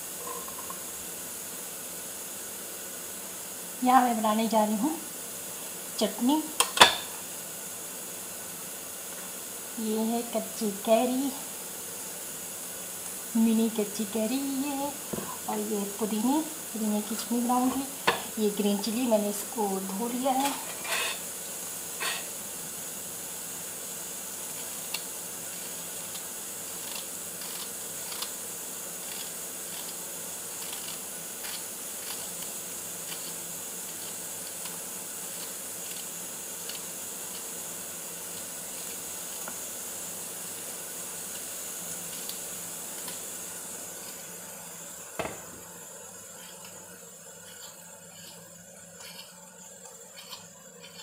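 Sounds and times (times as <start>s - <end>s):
steady high hiss: 0.0s - 51.0s.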